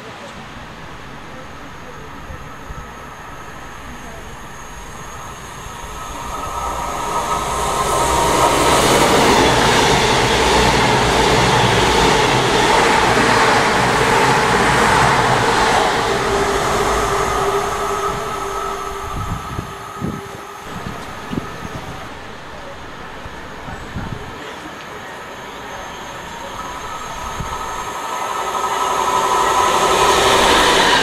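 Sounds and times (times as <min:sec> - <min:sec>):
train passing at speed: 0:00.0 - 0:31.0
train wheels on rails: 0:00.0 - 0:31.0.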